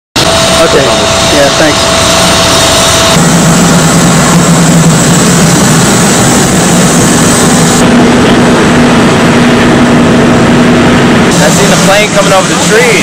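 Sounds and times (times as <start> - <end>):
loud engine noise: 0.2 - 13.0
low hum: 0.2 - 13.0.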